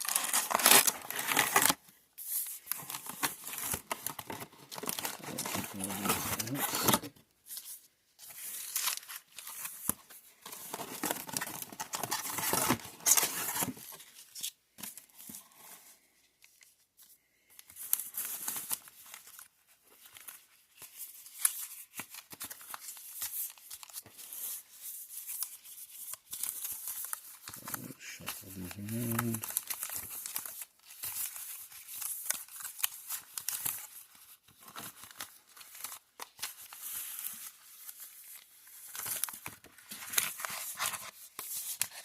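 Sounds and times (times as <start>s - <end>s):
plastic packaging tearing and crinkling: 0.0s - 7.2s, 8.2s - 14.6s, 17.8s - 42.0s.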